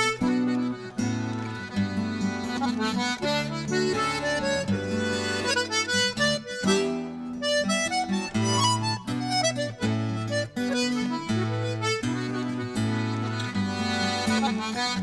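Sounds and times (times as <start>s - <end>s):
button accordion folk tune: 0.0s - 15.0s.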